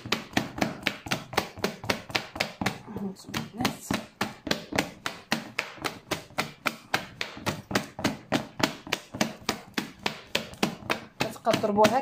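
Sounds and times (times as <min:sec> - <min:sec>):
whisk beating batter in plastic bowl: 0:00.0 - 0:12.0.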